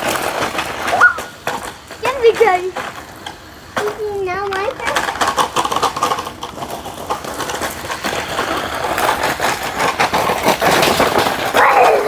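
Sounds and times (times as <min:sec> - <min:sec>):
rapid clicking and knocks: 0:00.0 - 0:12.0.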